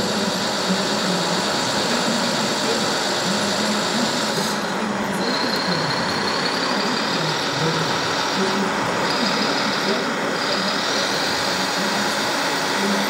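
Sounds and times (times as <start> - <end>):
busy hall din: 0.0 - 13.0
thin high whine: 0.0 - 13.0
toy engine drone: 0.0 - 13.0.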